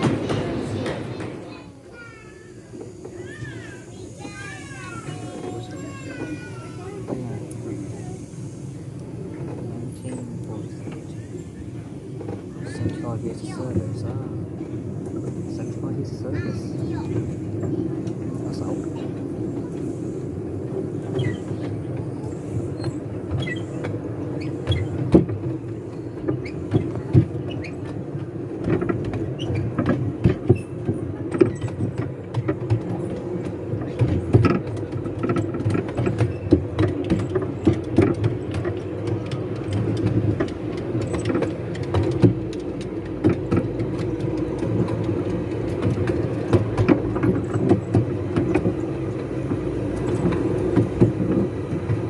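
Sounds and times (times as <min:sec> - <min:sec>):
miniature train rumbling on track: 0:00.0 - 0:52.0
wheels clicking and knocking: 0:00.0 - 0:52.0.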